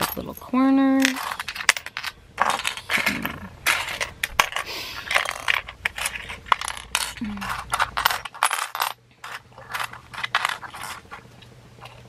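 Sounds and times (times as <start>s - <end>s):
metal pins clinking: 0.0s - 11.3s
metal scraping on wood: 1.0s - 11.3s.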